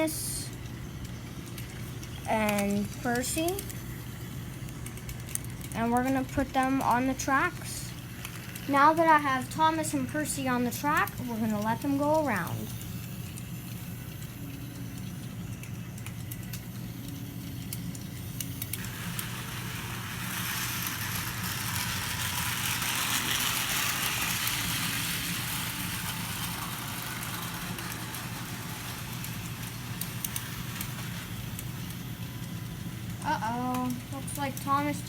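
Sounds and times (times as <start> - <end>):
model train motor hum: 0.0 - 35.0
wheels whirring: 0.0 - 35.0.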